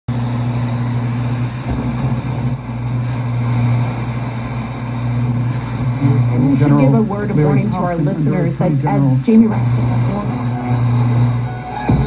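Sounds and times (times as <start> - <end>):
low hum from speaker: 0.1 - 12.0
radio static hiss: 0.1 - 12.0.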